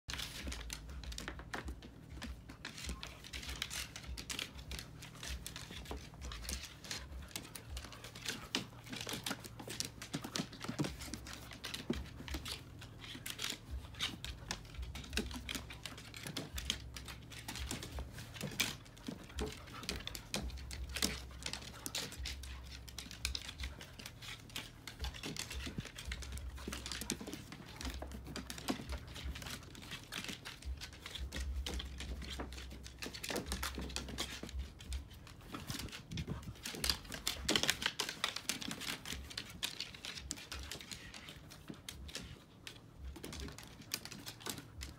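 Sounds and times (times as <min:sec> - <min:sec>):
dog claws clicking on wood: 0:00.1 - 0:44.9.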